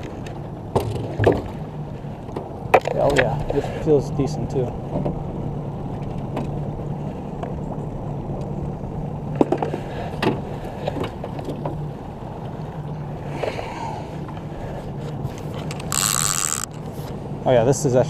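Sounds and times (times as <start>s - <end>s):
outboard motor humming: 0.0s - 18.0s.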